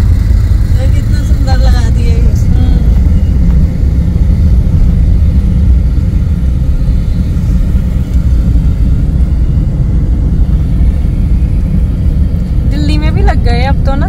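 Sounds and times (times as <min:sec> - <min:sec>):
car engine rumble: 0:00.0 - 0:14.0
road noise: 0:00.0 - 0:14.0
wind noise: 0:00.0 - 0:14.0.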